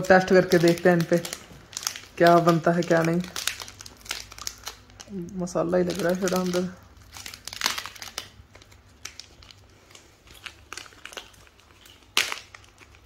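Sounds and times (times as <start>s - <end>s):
foil wrapper crinkling: 0.0s - 13.0s.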